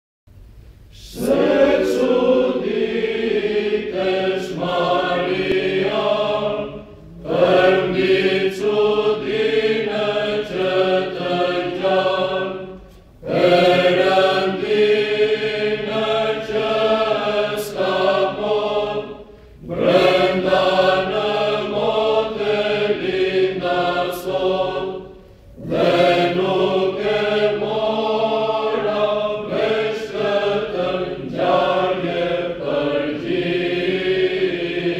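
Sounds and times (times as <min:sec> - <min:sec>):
mixed choir chanting: 0:01.0 - 0:34.9.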